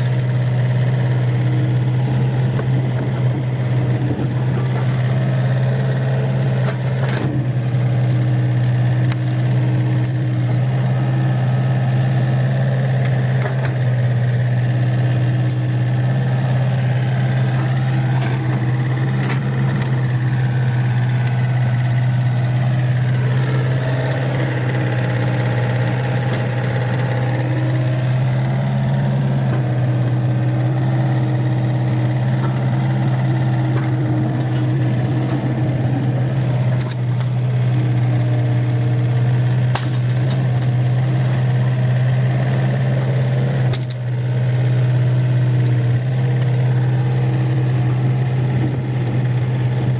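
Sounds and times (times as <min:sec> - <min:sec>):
excavator diesel engine droning: 0:00.0 - 0:49.9
hydraulic whine: 0:00.0 - 0:49.9.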